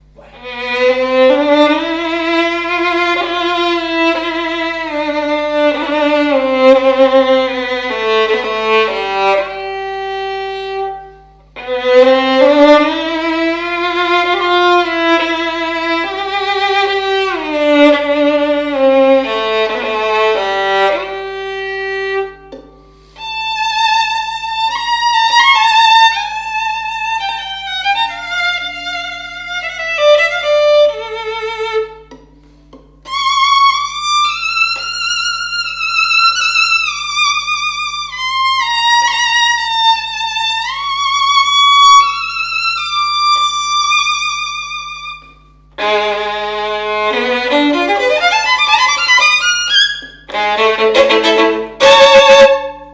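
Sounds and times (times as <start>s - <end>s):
solo violin with vibrato: 0.0s - 32.2s, 33.0s - 52.9s.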